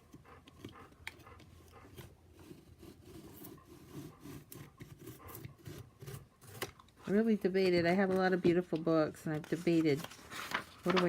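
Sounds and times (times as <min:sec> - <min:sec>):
book and paper handling: 0:01.9 - 0:11.0.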